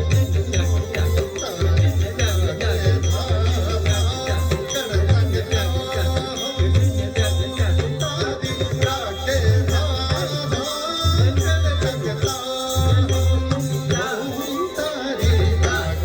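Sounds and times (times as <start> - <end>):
rattling percussion: 0.0 - 16.0.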